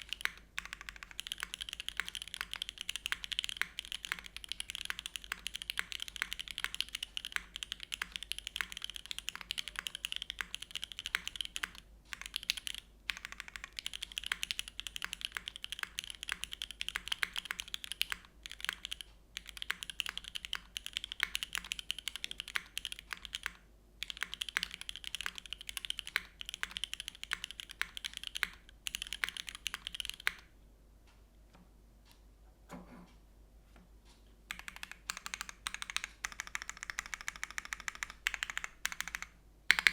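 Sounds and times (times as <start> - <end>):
mechanical keyboard typing: 0.0 - 30.5, 34.5 - 39.9.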